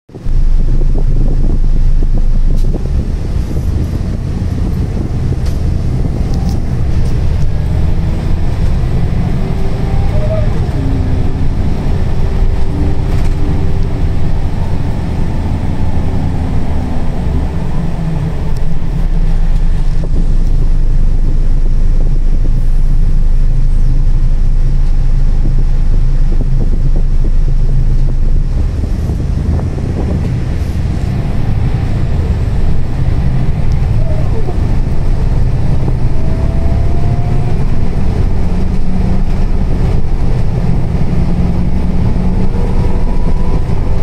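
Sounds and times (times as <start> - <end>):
diesel engine drone: 0.1 - 44.0
road noise: 0.1 - 44.0.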